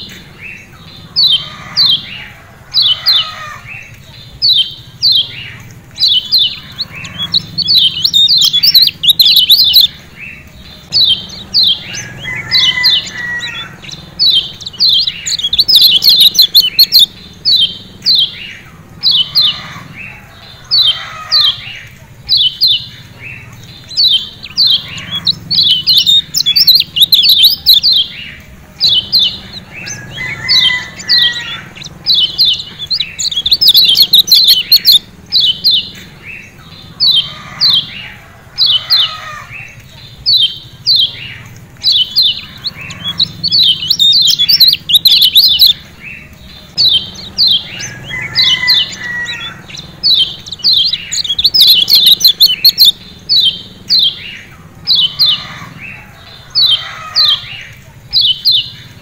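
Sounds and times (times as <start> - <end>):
bird chip calls: 0.0 - 59.0.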